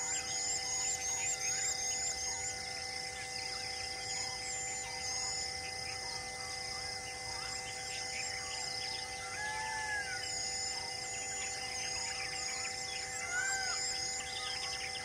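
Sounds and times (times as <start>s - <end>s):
birds chirping: 0.0s - 15.0s
steady high-pitched hum: 0.0s - 15.0s
whistled bird calls: 0.0s - 15.0s.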